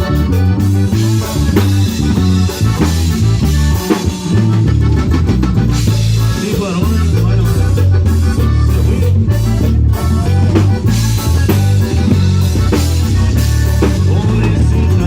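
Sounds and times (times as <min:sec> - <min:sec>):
bass line: 0:00.0 - 0:15.0
drum kit beat: 0:00.0 - 0:15.0
guitar: 0:00.0 - 0:15.0.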